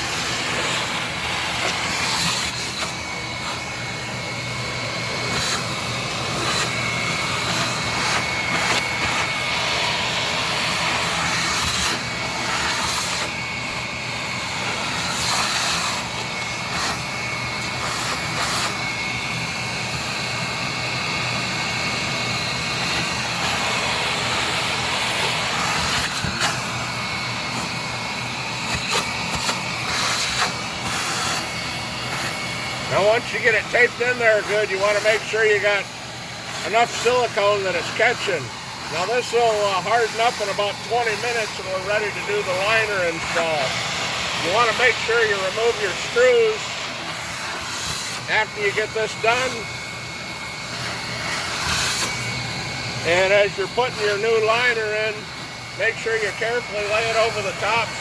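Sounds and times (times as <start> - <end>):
electric blower motor whining: 0.0 - 58.0.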